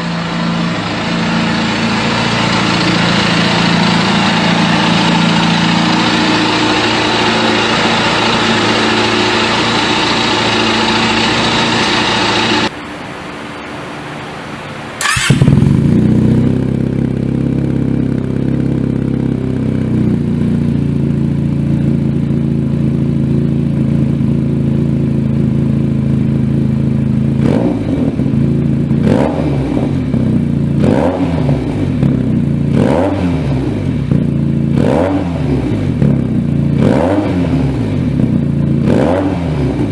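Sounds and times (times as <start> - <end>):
motorcycle engine revving: 0.0 - 12.8, 14.8 - 39.9.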